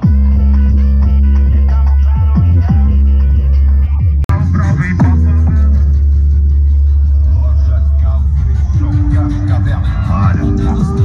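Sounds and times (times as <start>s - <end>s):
loud electronic music with heavy bass: 0.0s - 11.0s.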